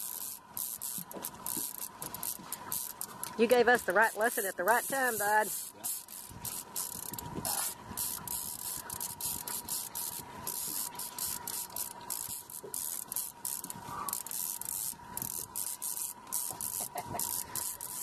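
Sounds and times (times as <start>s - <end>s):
fishing reel drag rasping: 0.0s - 18.0s.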